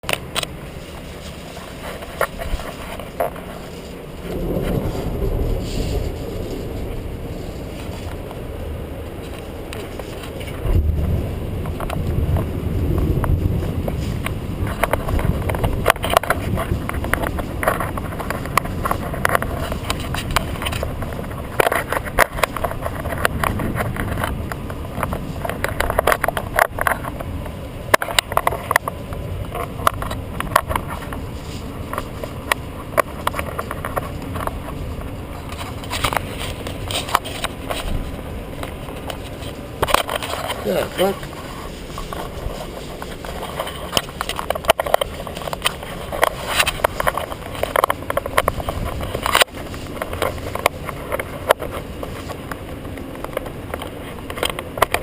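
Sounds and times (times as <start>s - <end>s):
rain drops clicking: 0.0s - 55.0s
low thunder rumble: 2.1s - 47.7s.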